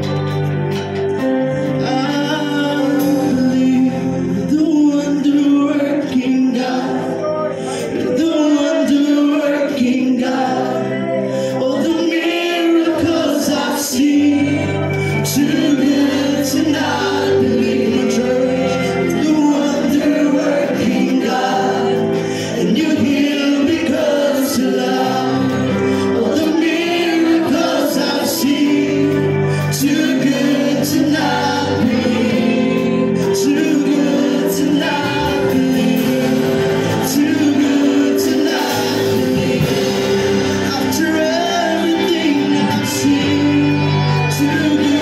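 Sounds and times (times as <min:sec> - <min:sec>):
sustained music: 0:00.0 - 0:45.0
worship song singing: 0:00.0 - 0:45.0.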